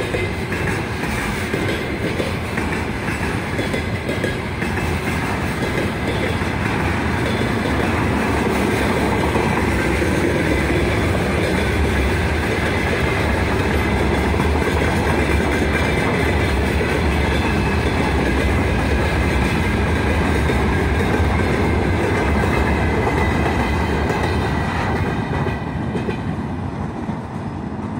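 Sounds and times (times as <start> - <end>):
freight train wheels rolling: 0.0 - 27.9.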